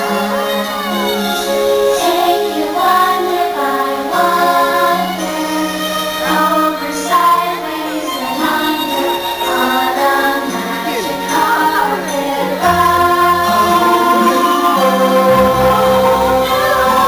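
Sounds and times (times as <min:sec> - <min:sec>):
choir singing held notes: 0:00.0 - 0:17.0
instrumental backing music: 0:00.0 - 0:17.0.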